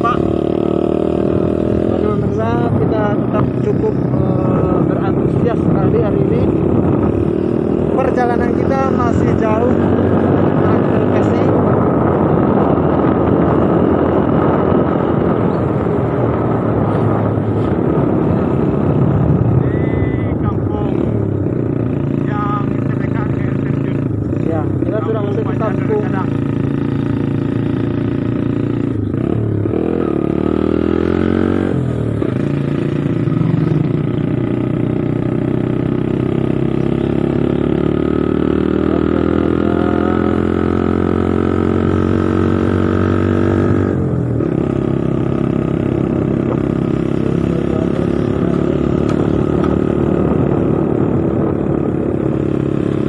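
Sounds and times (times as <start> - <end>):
motorcycle engine and exhaust: 0.0 - 53.0
wind rushing over microphone: 0.0 - 53.0.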